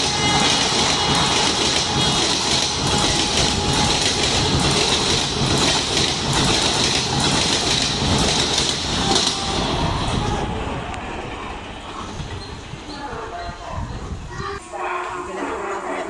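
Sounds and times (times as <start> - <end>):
train coaches rumbling past: 0.0 - 14.6.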